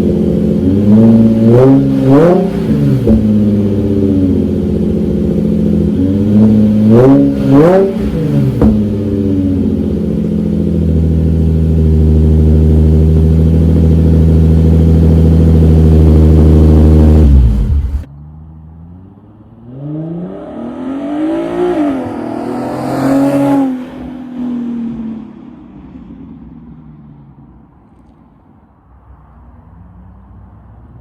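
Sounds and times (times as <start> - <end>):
car engine revving: 0.0 - 25.4.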